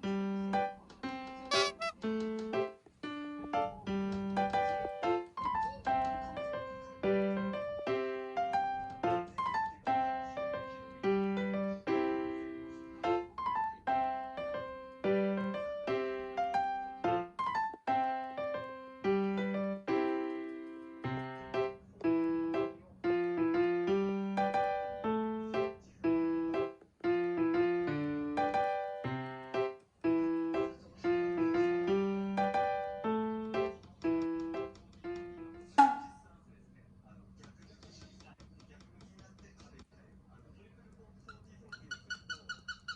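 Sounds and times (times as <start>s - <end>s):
piano melody: 0.0s - 36.2s.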